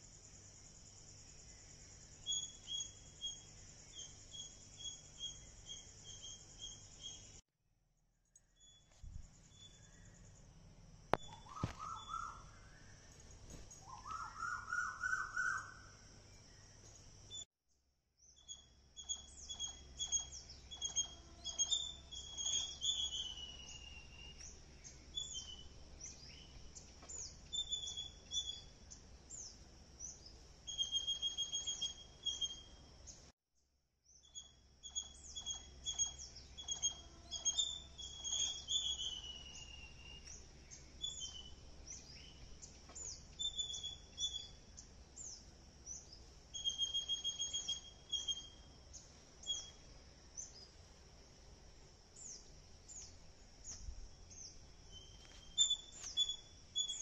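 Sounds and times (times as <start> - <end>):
small birds chirping: 0.0 - 7.4, 8.2 - 17.5, 18.2 - 33.3, 34.1 - 51.3, 51.9 - 57.0
bird trill: 1.5 - 7.4, 11.2 - 13.0, 13.7 - 16.0, 18.2 - 33.2, 34.1 - 50.7, 52.2 - 57.0.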